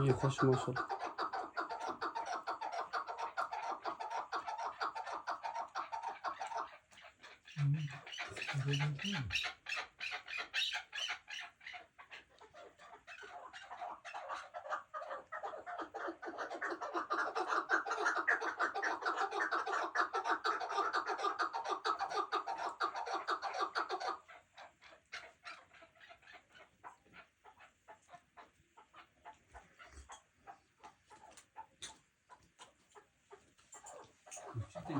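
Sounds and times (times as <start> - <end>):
partridge clucking calls: 0.0 - 34.9.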